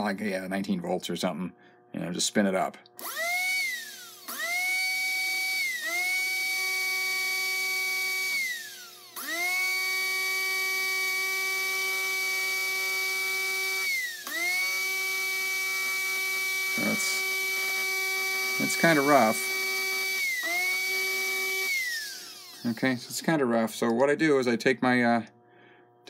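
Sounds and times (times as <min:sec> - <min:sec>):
high-pitched electric motor whine: 0:00.0 - 0:23.8.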